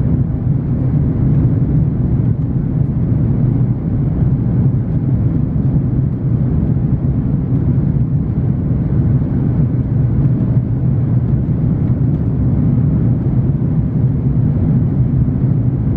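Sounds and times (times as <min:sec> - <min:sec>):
aircraft cabin engine rumble: 0:00.0 - 0:15.9.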